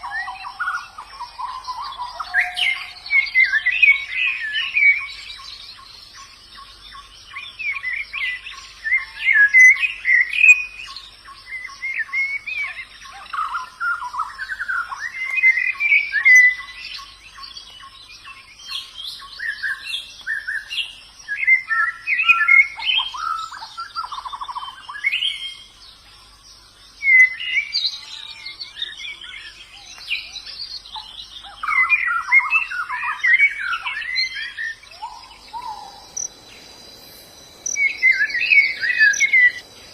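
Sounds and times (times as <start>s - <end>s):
birds twittering and warbling: 0.0s - 39.9s.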